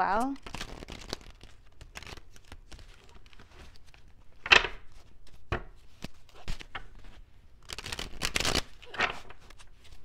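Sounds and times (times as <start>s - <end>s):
cards being shuffled: 0.2s - 10.0s.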